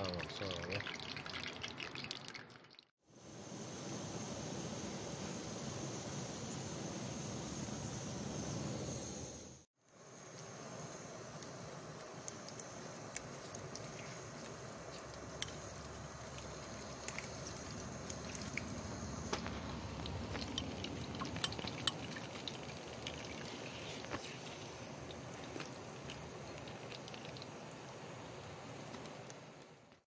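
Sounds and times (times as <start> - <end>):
deep-frying sizzle with pops: 4.1 - 30.0.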